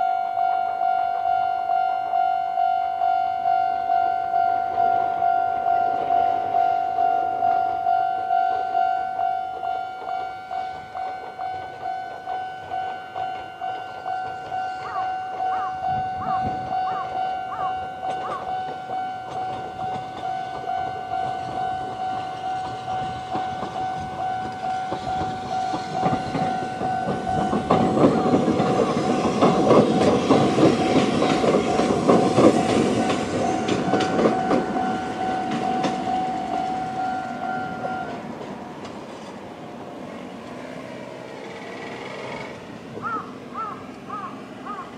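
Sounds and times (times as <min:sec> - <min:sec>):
level crossing alarm: 0:00.0 - 0:38.4
train wheels clattering over rail joints: 0:07.4 - 0:44.9.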